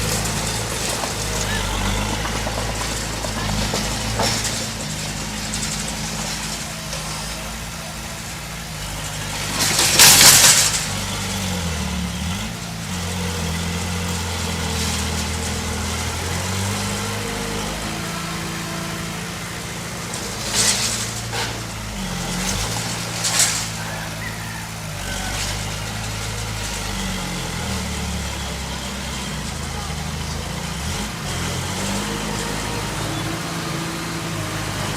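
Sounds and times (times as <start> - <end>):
heavy diesel machine engine: 0.0 - 34.9.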